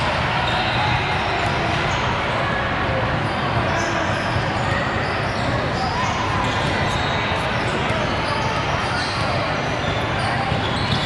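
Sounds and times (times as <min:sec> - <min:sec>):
crowd noise in indoor hall: 0:00.0 - 0:11.0.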